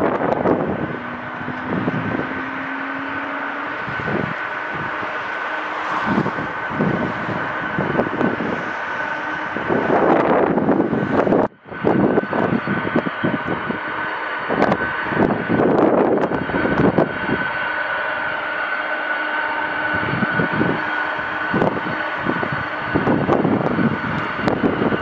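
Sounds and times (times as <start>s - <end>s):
jet engines running: 0.0s - 25.0s
wind buffeting microphone: 0.0s - 25.0s.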